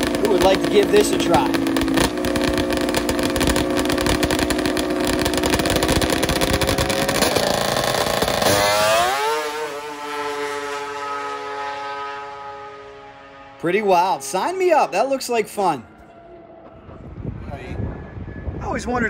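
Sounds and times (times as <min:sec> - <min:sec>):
racing engine at high revs: 0:00.0 - 0:15.9.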